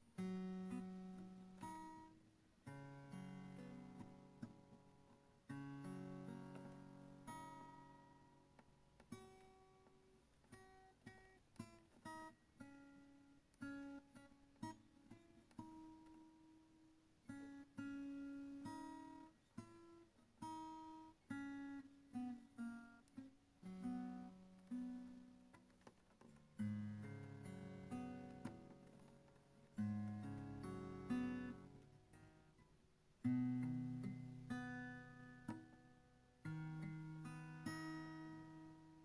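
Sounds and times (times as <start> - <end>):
acoustic guitar playing: 0.0 - 39.0.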